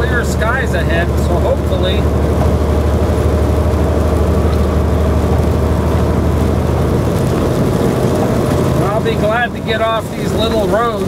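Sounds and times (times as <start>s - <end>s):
road noise: 0.0s - 11.0s
truck diesel engine droning: 0.0s - 11.0s.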